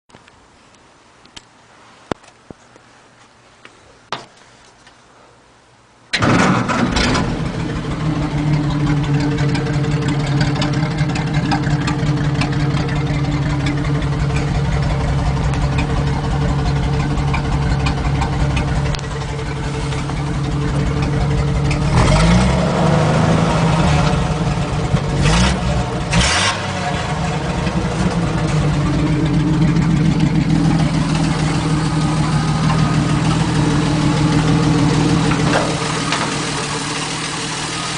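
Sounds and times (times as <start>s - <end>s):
engine revving: 6.2s - 37.9s
pickup truck engine idling: 6.9s - 37.9s.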